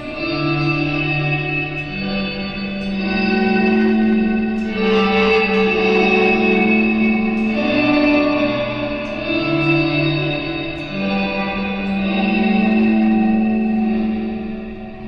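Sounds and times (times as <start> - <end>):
ambient electric guitar notes: 0.0 - 15.0.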